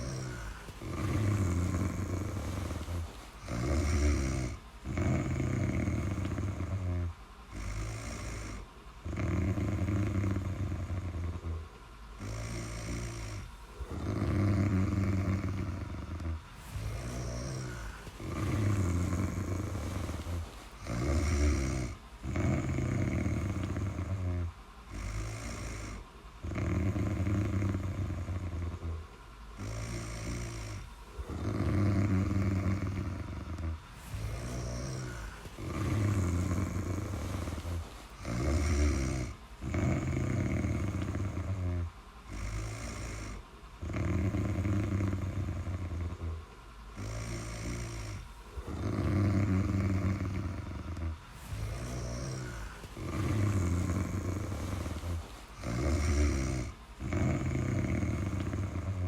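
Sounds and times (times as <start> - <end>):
person snoring: 0.0 - 59.0.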